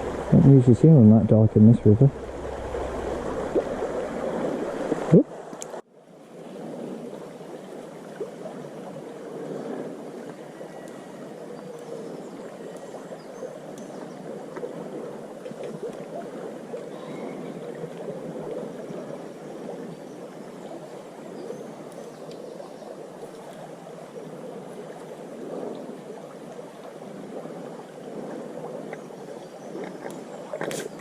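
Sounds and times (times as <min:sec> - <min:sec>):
river babbling: 0:00.0 - 0:31.0.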